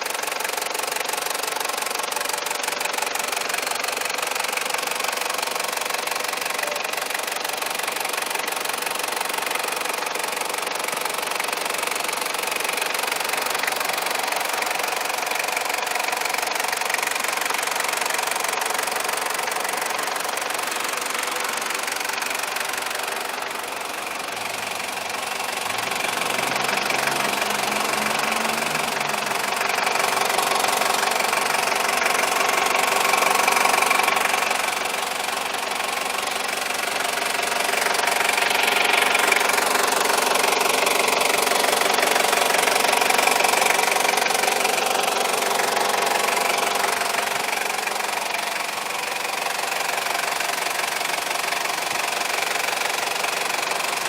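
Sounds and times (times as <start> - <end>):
diesel engine idling with clatter: 0.0 - 54.0.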